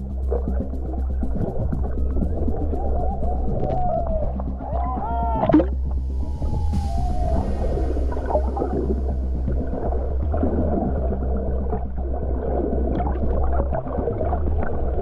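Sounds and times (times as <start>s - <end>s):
gurgling water: 0.0s - 15.0s
steady low hum: 0.0s - 15.0s
whale vocalizing underwater: 1.6s - 15.0s.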